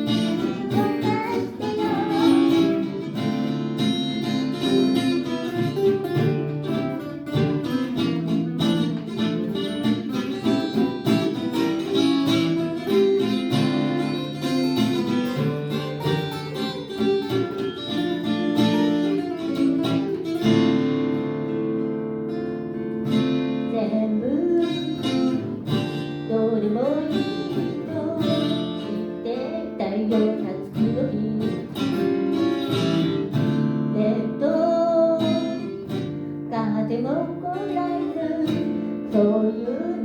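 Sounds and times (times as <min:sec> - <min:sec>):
acoustic guitar picked and strummed: 0:00.0 - 0:40.0.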